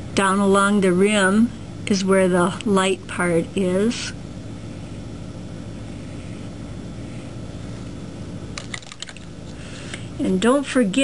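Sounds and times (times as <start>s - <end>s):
room tone hum and hiss: 0.0s - 11.0s.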